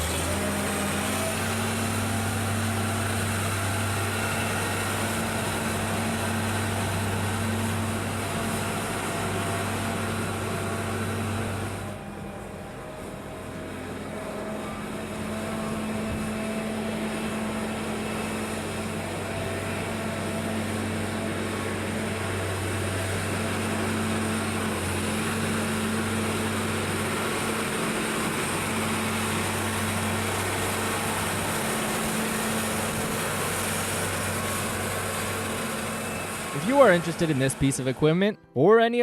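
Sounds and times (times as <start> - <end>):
tractor diesel engine running: 0.0 - 38.4.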